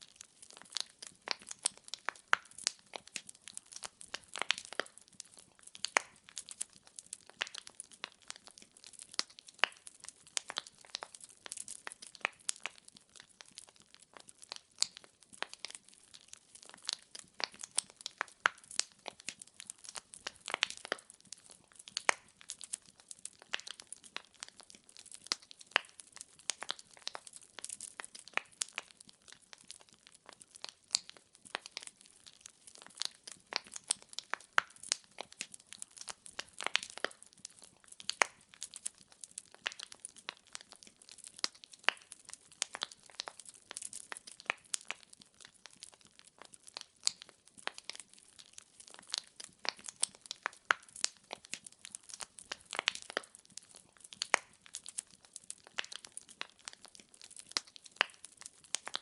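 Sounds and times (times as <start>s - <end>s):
firewood crackling: 0.0s - 59.0s.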